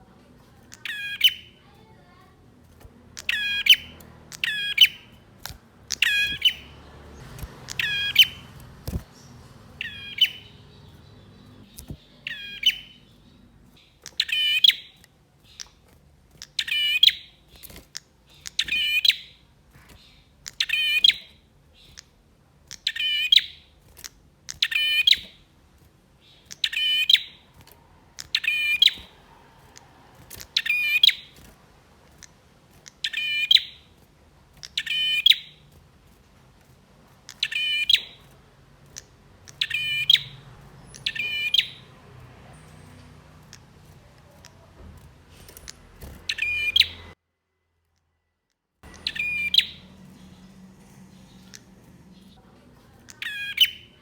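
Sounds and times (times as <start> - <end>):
bird singing sharp chirps: 0.6 - 2.0, 3.0 - 15.8, 16.4 - 22.0, 22.8 - 23.7, 24.5 - 25.4, 26.2 - 31.5, 32.1 - 34.0, 34.6 - 35.6, 37.3 - 38.3, 38.9 - 44.7, 45.3 - 47.2, 48.8 - 54.0.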